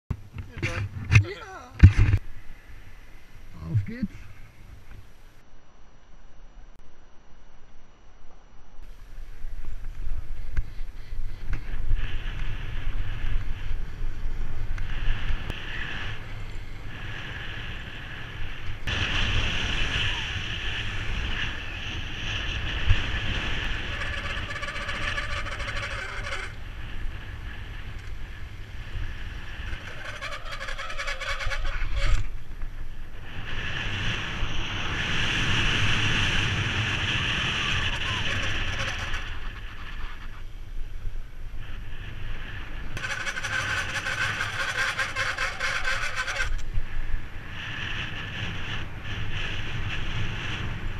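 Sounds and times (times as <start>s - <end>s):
tyre noise on asphalt: 8.8s - 50.9s
wind rushing over microphone: 8.8s - 50.9s.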